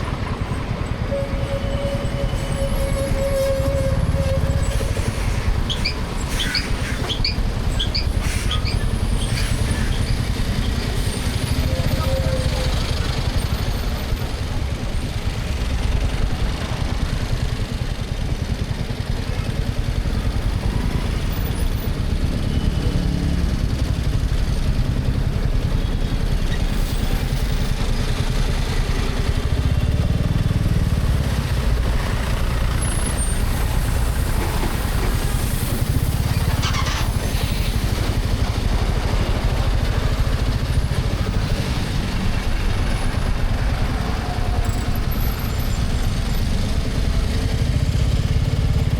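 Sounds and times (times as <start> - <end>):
motorcycle engine rumble: 0.0 - 48.9
trucks passing: 0.0 - 48.9.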